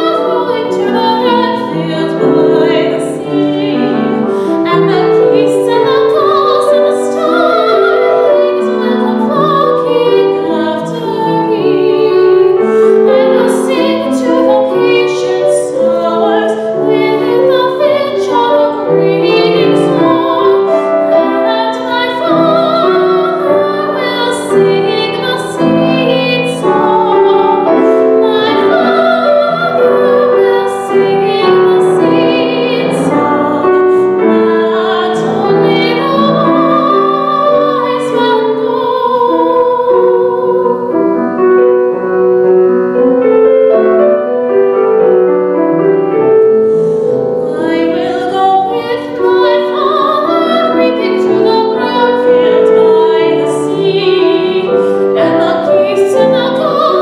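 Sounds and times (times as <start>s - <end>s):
woman singing operatically: 0.0s - 41.3s, 47.5s - 57.0s
piano accompaniment: 0.0s - 57.0s.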